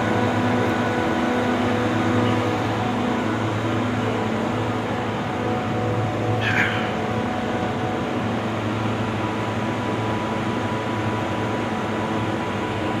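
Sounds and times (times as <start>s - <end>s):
air conditioner whirring: 0.0s - 13.0s.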